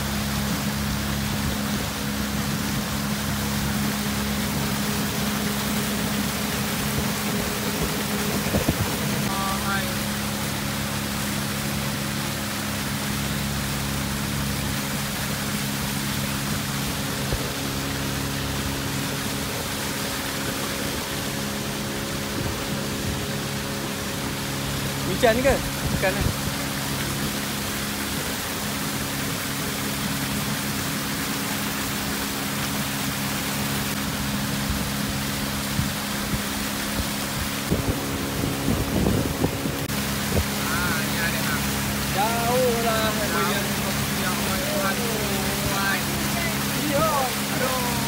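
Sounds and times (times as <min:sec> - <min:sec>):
boat motor running: 0:00.0 - 0:48.0
rushing water: 0:00.0 - 0:48.0.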